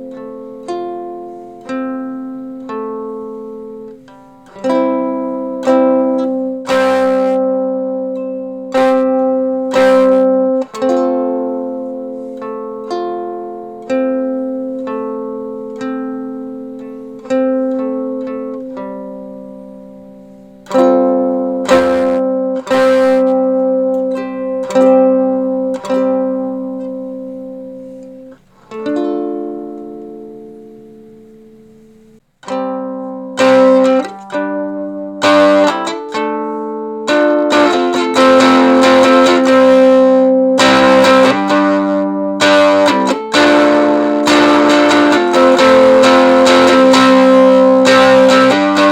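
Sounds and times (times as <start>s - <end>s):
electric ukulele chords: 0.0s - 48.9s.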